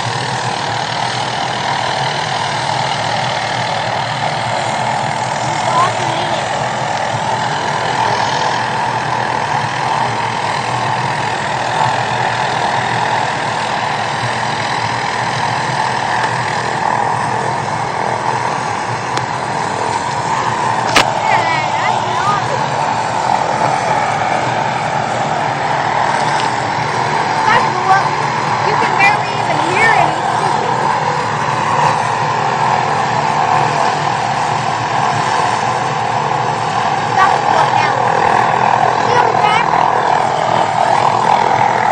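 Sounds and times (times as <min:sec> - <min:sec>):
helicopter turbine and rotor: 0:00.0 - 0:41.9.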